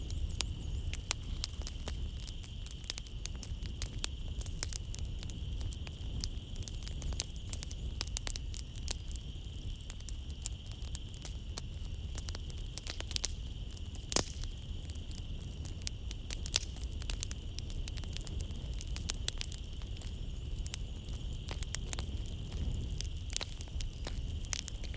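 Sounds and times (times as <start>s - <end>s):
night insects trilling: 0.0s - 24.9s
wood fire crackling and popping: 0.0s - 24.9s.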